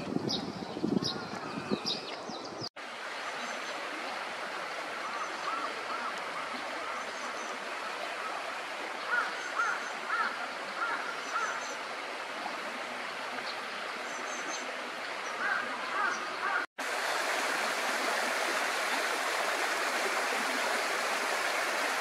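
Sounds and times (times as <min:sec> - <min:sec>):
flowing water: 0:00.0 - 0:22.0.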